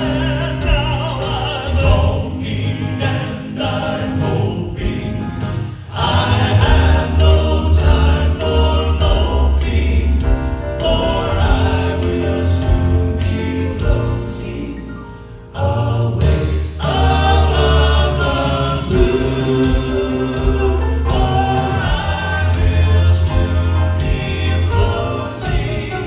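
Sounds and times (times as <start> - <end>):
live band with bass line: 0.0 - 26.0
male quartet singing in harmony: 0.0 - 26.0.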